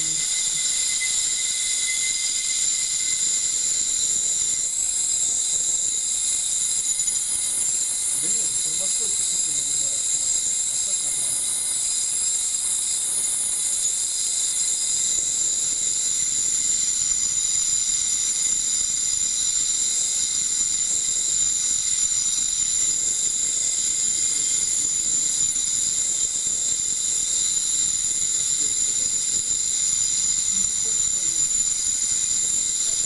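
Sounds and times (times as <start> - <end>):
high-pitched ultrasonic whine: 0.0 - 33.0
hiss: 0.0 - 33.0.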